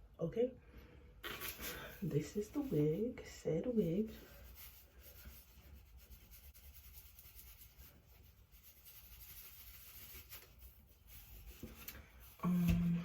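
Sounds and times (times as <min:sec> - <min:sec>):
scratchy rustling: 0:01.2 - 0:13.0.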